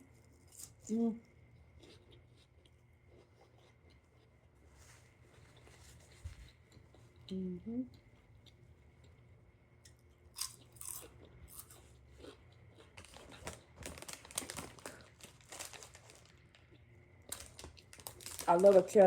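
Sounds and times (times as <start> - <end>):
chewing and crunching chips: 0.0 - 19.0.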